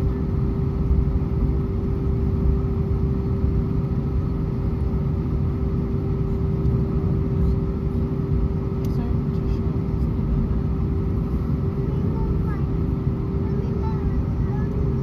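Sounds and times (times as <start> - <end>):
airplane cabin engine rumble: 0.0 - 15.0
constant mid-pitched hum: 0.0 - 15.0.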